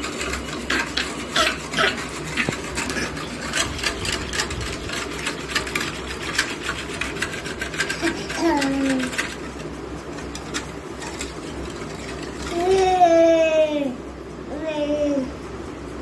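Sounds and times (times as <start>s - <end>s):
metal whisk rattling against bowl: 0.0s - 13.3s.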